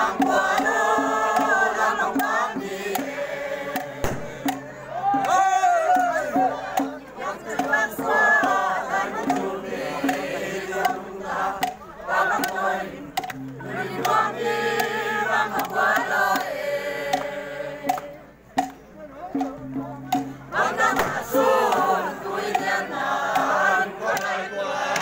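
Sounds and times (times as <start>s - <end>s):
group singing in chorus: 0.0s - 25.0s
sharp percussive beats: 0.0s - 25.0s.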